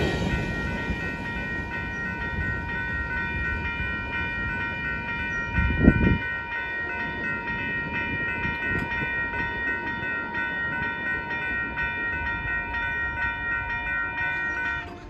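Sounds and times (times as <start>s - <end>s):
crossing bell ringing: 0.0s - 15.0s
freight train rumble: 0.0s - 15.0s.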